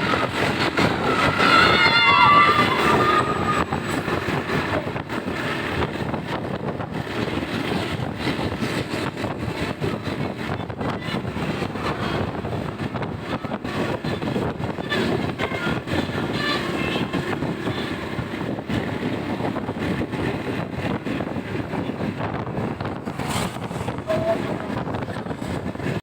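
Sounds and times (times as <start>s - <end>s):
bus engine: 0.0s - 26.0s.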